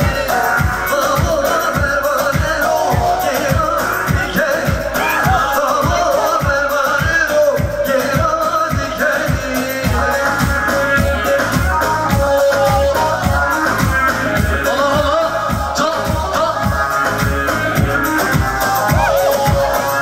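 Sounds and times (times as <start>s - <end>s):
fast steady drum beat: 0.0s - 20.0s
person singing: 0.0s - 20.0s.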